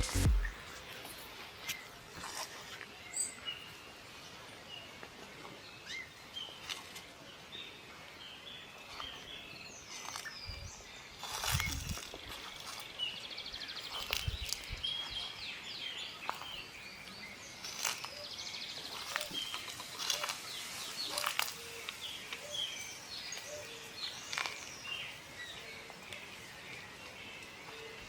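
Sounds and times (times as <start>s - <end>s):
small birds chirping and trilling: 1.6s - 28.0s.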